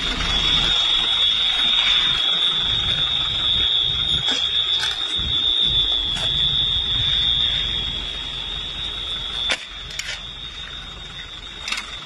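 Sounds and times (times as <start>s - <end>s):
high-pitched alarm tone: 0.0s - 12.0s
low rumbling noise: 0.0s - 12.0s.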